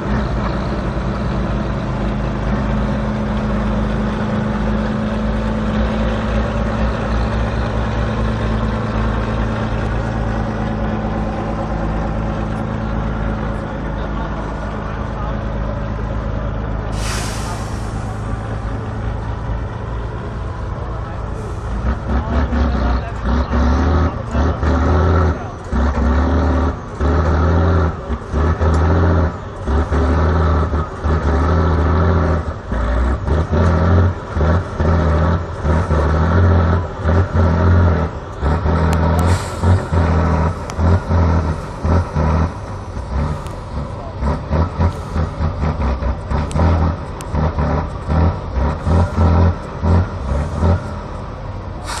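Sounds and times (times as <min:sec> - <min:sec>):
diesel truck engine revving: 0:00.0 - 0:52.0.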